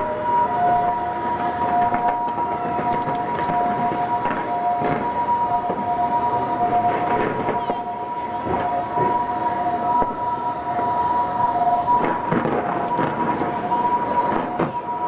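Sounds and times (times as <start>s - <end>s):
outdoor crowd noise: 0.0s - 15.0s.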